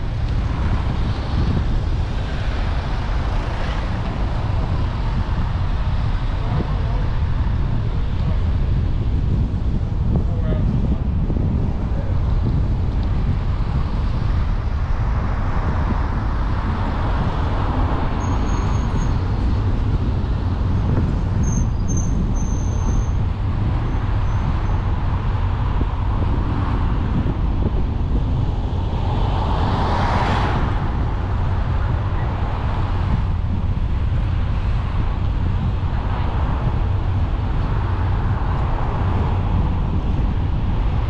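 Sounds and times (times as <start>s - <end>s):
car engine and tyre rumble: 0.0s - 41.0s.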